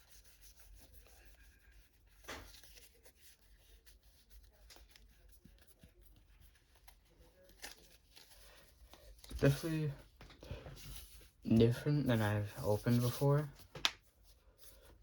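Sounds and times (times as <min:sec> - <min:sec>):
trading cards brushing: 0:00.0 - 0:15.0.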